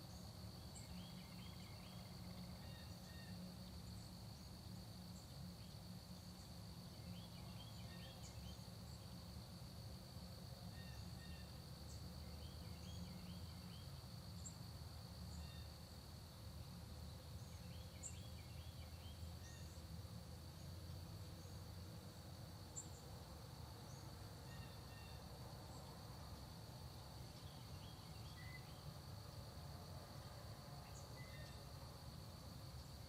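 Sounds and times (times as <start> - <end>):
insects droning: 0.0 - 33.0
songbird singing: 0.0 - 33.0.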